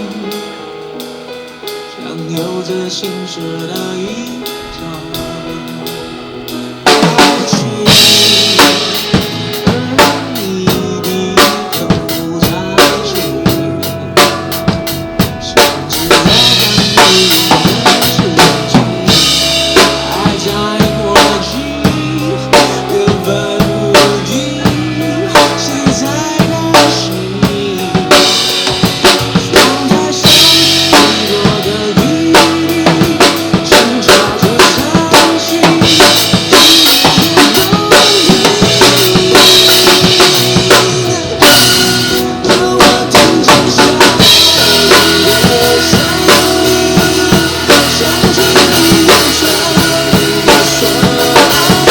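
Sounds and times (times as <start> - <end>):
live drum kit: 0.0 - 51.9
pop backing track: 0.0 - 51.9.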